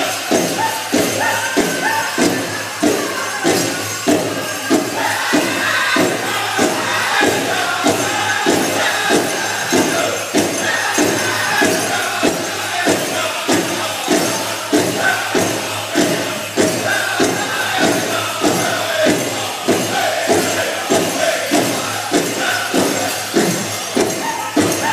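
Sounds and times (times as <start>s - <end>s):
bells jingling: 0.0s - 24.9s
big drum beating: 0.0s - 24.9s
crowd noise: 0.0s - 24.9s
voices singing in high unison: 0.0s - 24.9s.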